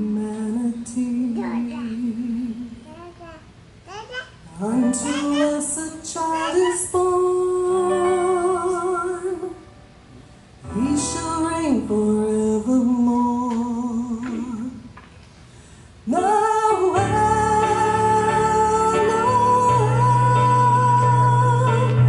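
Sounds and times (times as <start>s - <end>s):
woman singing a hymn: 0.0s - 2.9s, 4.5s - 9.8s, 10.6s - 15.0s, 16.0s - 22.0s.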